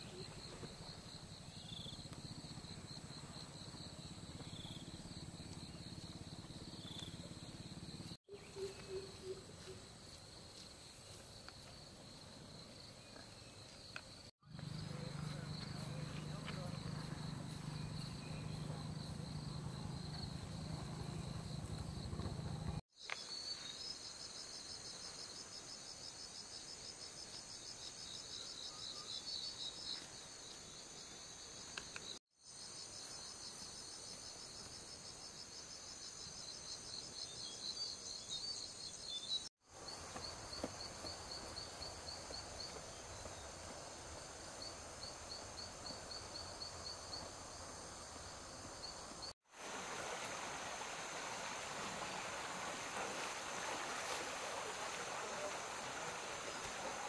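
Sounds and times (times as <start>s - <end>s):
insects trilling and chirping: 0.0s - 57.0s.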